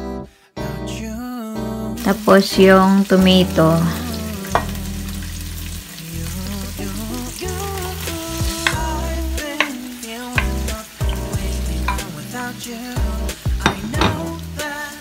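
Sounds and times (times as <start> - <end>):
background music with bass: 0.0 - 2.1, 3.2 - 9.6, 10.4 - 15.0
onions sizzling in hot oil: 2.0 - 15.0.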